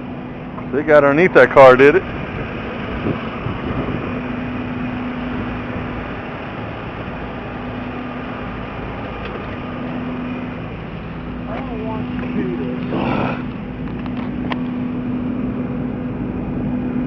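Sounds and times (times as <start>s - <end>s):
vehicle running with low hum: 0.0s - 17.0s.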